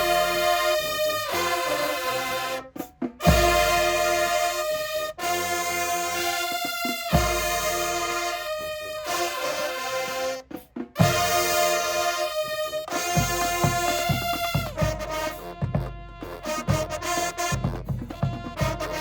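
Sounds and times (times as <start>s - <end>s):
brass playing held chords: 0.0s - 19.0s.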